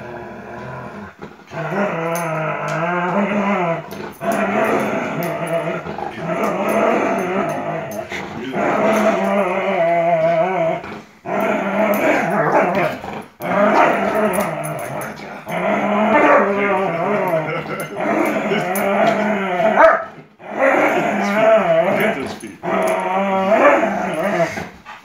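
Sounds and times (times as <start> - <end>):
dog growling in play: 0.0 - 25.0.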